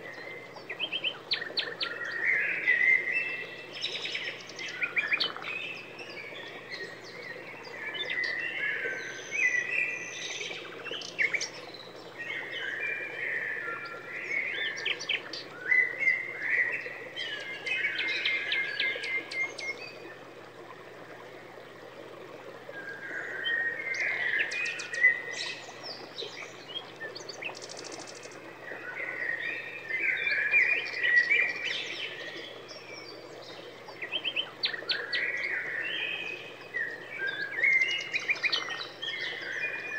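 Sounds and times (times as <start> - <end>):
songbird chirping and trilling: 0.0 - 20.2, 22.8 - 39.9.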